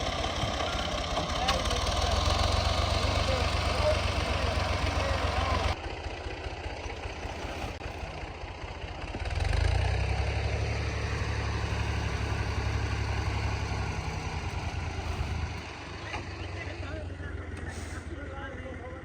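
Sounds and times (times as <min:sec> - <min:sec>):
tractor diesel engine rumbling: 0:00.0 - 0:19.0.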